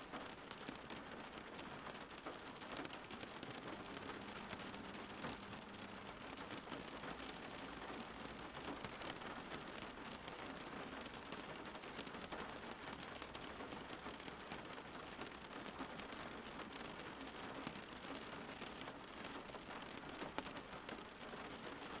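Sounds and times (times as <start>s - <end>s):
rain pattering on a surface: 0.0s - 22.0s.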